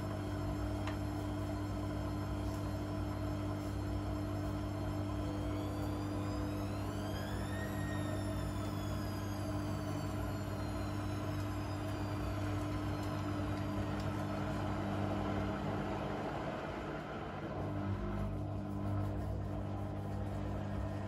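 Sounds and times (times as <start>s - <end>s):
steady hum: 0.0s - 21.0s
washing machine motor whine: 0.0s - 21.0s.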